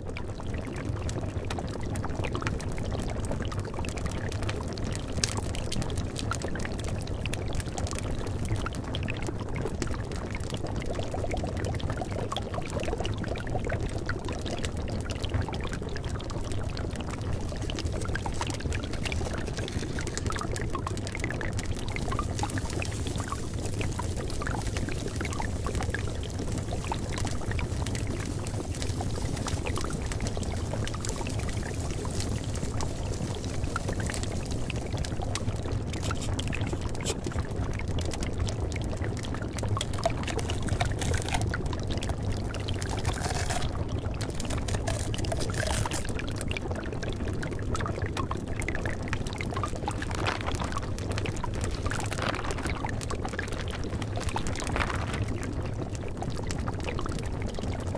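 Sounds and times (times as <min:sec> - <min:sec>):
water pouring and trickling: 0:00.0 - 0:57.9.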